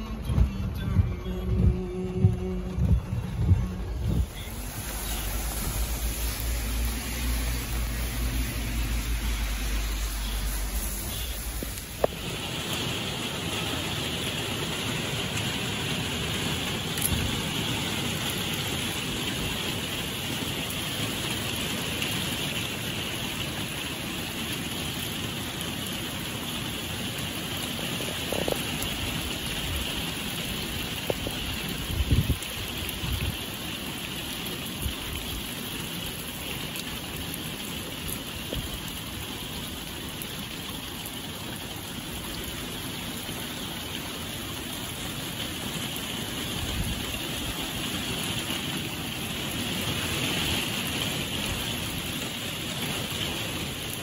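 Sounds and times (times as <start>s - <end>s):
heavy rain on paving: 0.0s - 54.0s.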